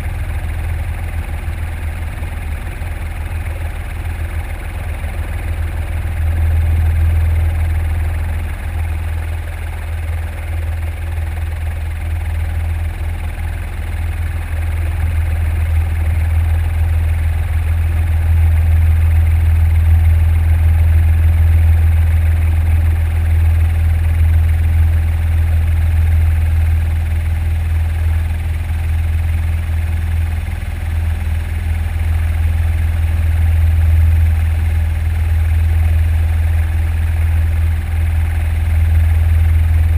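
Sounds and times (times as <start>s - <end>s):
helicopter rotor and turbine drone: 0.0s - 39.9s.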